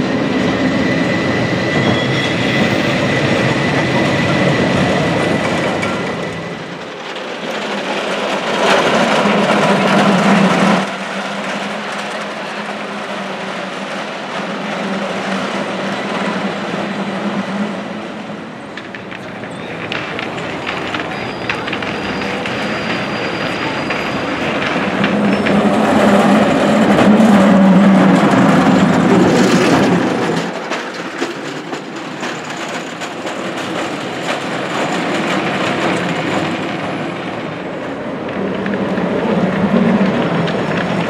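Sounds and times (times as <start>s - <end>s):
cable car rumbling on rails: 0.0s - 41.0s.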